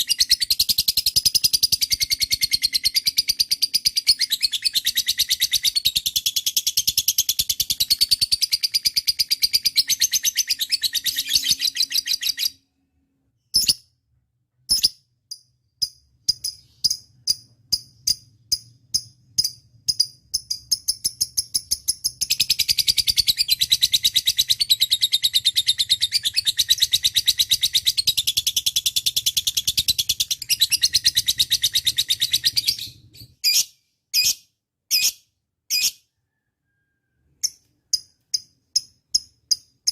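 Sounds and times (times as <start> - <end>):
bird trilling and chirping: 0.0 - 12.6, 14.7 - 36.3.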